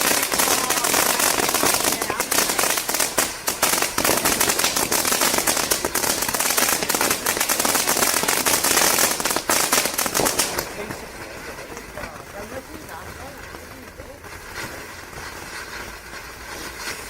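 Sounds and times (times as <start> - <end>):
fireworks crackling bangs: 0.0 - 17.0.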